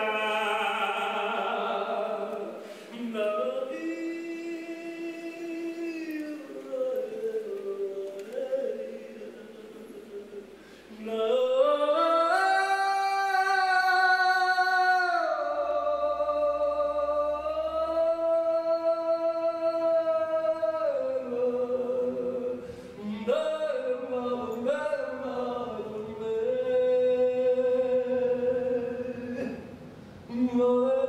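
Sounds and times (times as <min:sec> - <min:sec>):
man singing operatically: 0:00.0 - 0:29.7, 0:30.3 - 0:31.0.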